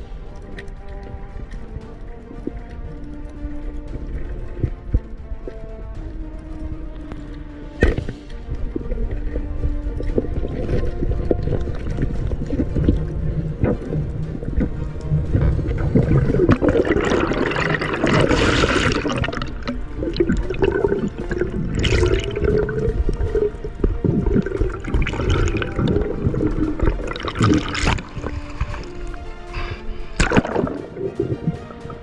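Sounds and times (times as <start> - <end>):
sea water rushing and gurgling: 0.0 - 32.0.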